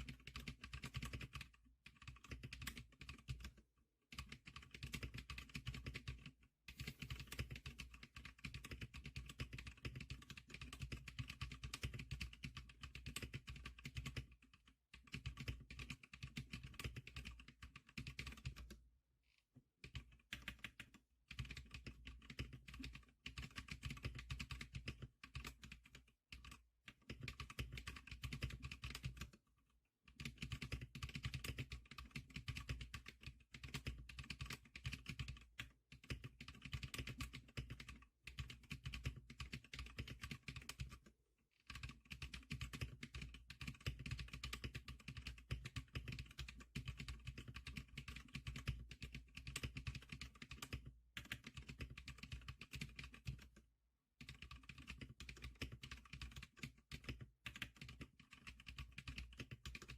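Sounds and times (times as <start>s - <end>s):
fast keyboard typing: 0.0s - 18.8s, 19.8s - 53.6s, 54.2s - 59.9s.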